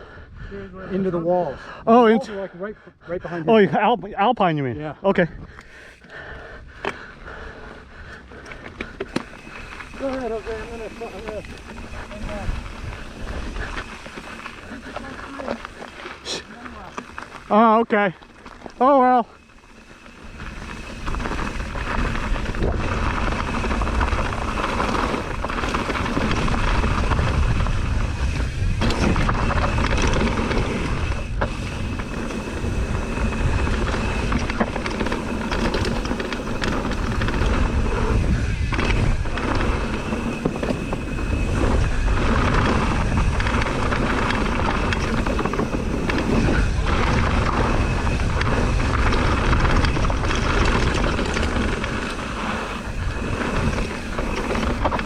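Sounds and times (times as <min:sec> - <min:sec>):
mountain bike riding noise: 0:00.0 - 0:55.0
bike knocking and clattering: 0:08.5 - 0:17.5, 0:19.6 - 0:55.0.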